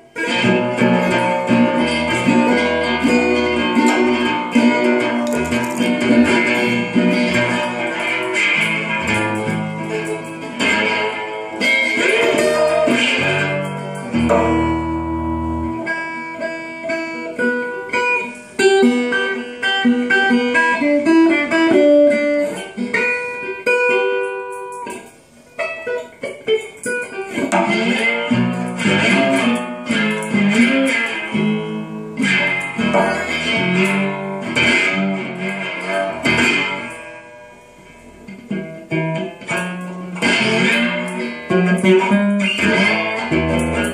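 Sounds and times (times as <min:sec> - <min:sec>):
resonator guitar fingerpicked blues: 0:00.0 - 0:43.9.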